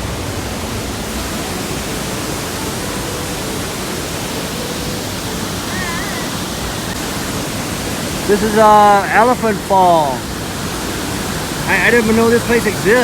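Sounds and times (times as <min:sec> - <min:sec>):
large waterfall rushing: 0:00.0 - 0:13.0.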